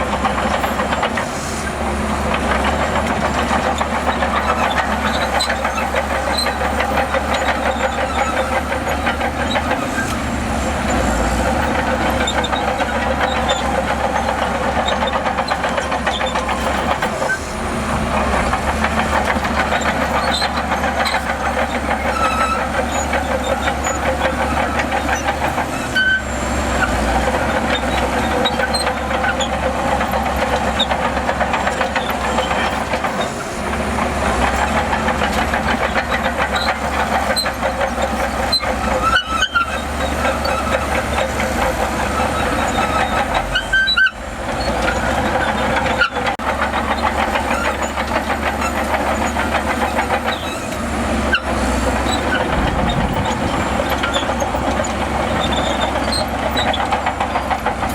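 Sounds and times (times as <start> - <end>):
bulldozer diesel engine under load: 0.0 - 57.9
steel tracks clattering: 0.0 - 57.9.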